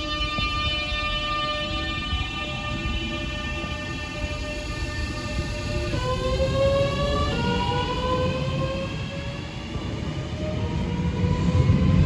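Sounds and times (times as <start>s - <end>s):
electric train motors whining: 0.0s - 12.0s
wheels rumbling on track: 0.0s - 12.0s.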